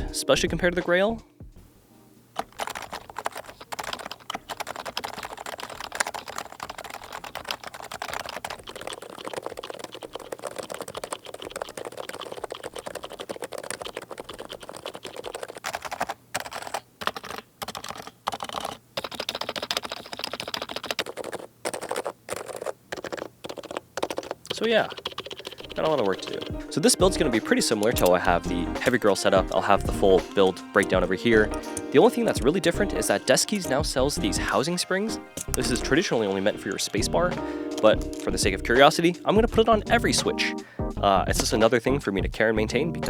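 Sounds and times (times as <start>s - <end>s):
fast keyboard typing: 2.4s - 40.6s.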